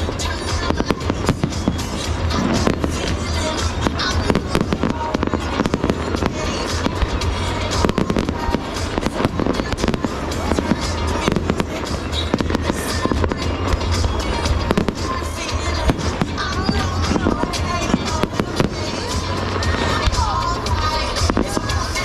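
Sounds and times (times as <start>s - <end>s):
fireworks bursting and crackling: 0.0s - 22.0s
music playing: 0.0s - 22.0s.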